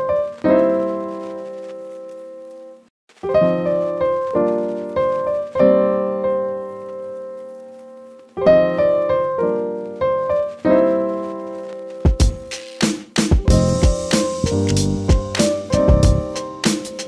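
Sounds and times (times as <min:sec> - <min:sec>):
piano chords ringing out: 0:00.0 - 0:12.5, 0:13.5 - 0:17.0.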